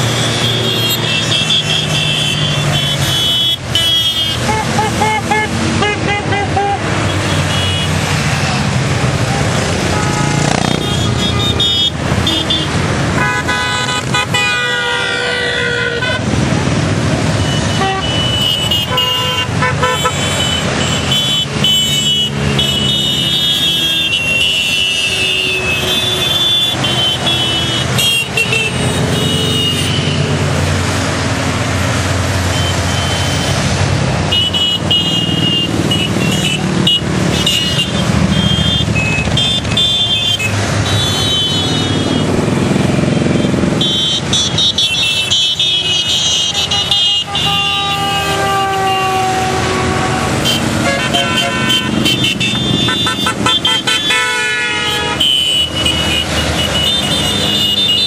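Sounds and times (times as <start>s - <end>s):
motorcycle horns honking: 0.0s - 30.5s, 32.4s - 58.0s
motorcycle engines rumbling: 0.0s - 58.0s.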